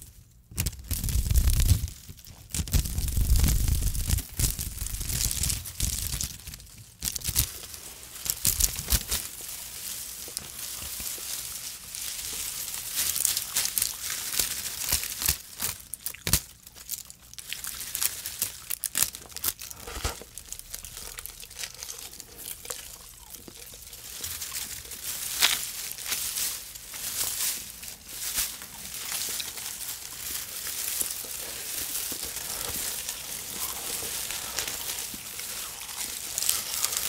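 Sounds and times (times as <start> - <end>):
starch film crinkling: 0.0 - 37.0.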